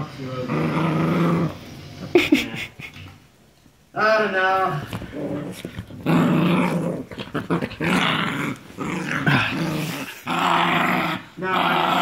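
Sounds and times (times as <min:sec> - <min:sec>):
dogs growling in play: 0:00.1 - 0:03.2, 0:04.8 - 0:12.0.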